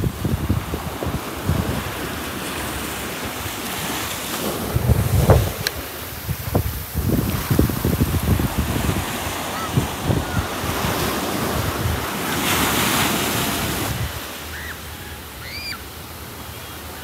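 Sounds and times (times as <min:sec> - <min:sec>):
wind buffeting microphone: 0:00.0 - 0:14.3
ocean surf rushing: 0:00.0 - 0:17.0.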